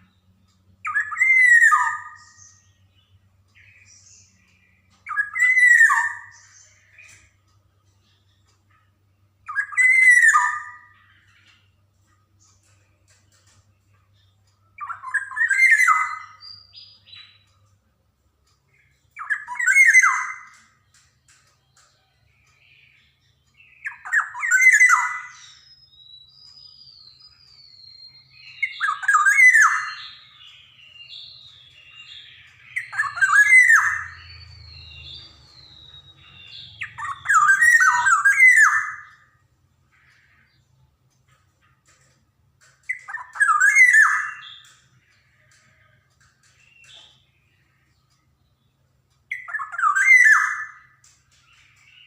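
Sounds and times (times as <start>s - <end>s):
bird harsh calls: 0.0s - 17.5s, 18.6s - 52.0s.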